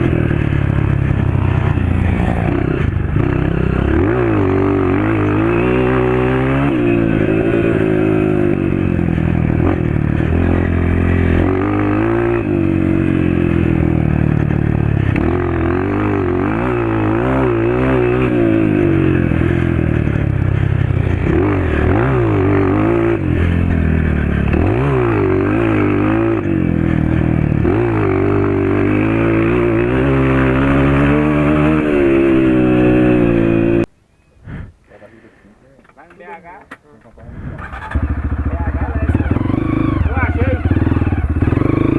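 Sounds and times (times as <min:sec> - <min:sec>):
motorcycle engine revving: 0:00.0 - 0:33.9, 0:37.3 - 0:41.9.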